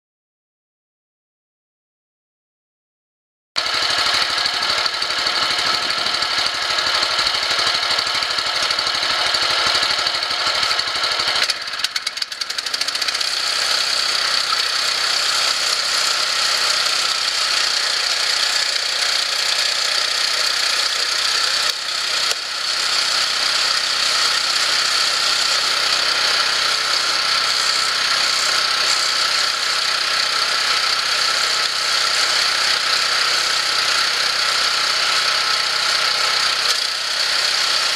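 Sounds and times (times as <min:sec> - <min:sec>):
log splitter engine running: 0:03.6 - 0:37.9.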